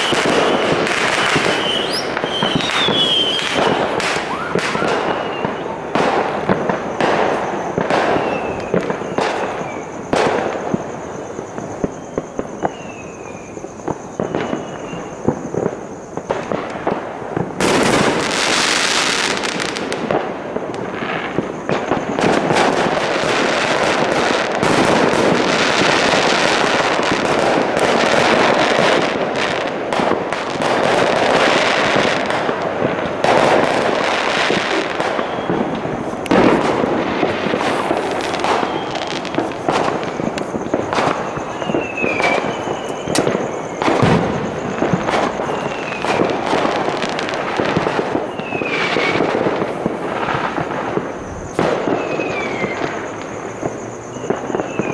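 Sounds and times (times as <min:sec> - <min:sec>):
distant fireworks bangs and pops: 0:00.0 - 0:54.9
rapid-fire firecrackers crackling: 0:00.0 - 0:54.9.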